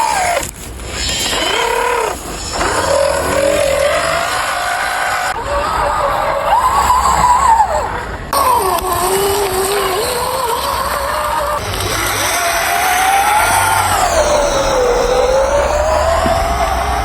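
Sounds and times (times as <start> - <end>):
electric motor and gears whining: 0.0 - 5.7, 6.9 - 17.0.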